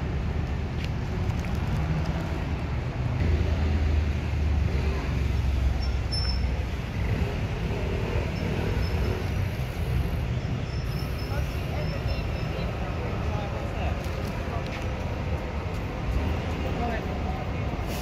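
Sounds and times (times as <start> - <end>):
busy road traffic: 0.0 - 18.0
heavy vehicle engine rumble: 0.0 - 18.0.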